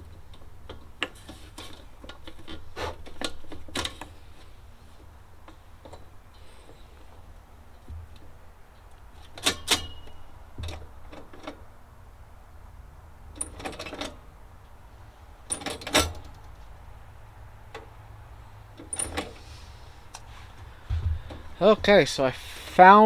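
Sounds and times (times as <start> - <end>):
sharp clicks and clanks of parts: 0.0 - 12.0, 13.3 - 14.8, 15.4 - 16.9, 17.6 - 22.8.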